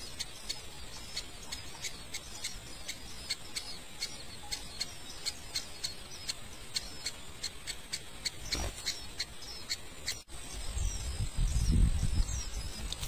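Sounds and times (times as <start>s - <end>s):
nestling birds peeping: 0.0s - 13.0s.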